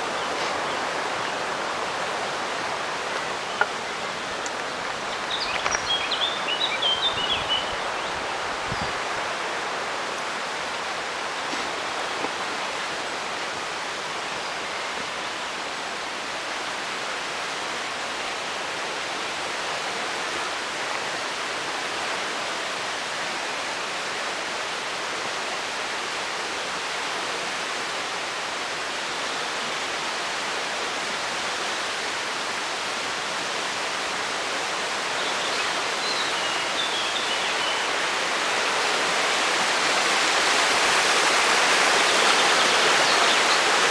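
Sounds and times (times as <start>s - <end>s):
river rushing white water: 0.0s - 43.9s.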